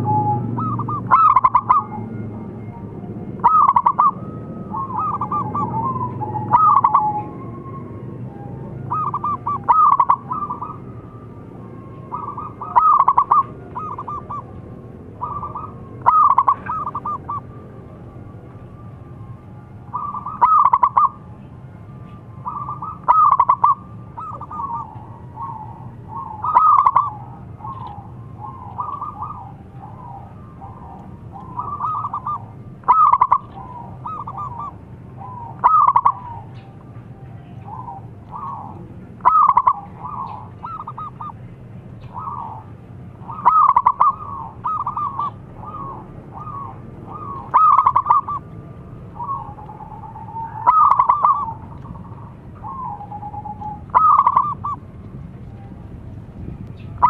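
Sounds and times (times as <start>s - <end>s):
dove cooing: 0.0s - 17.8s, 19.8s - 21.3s, 22.0s - 54.9s.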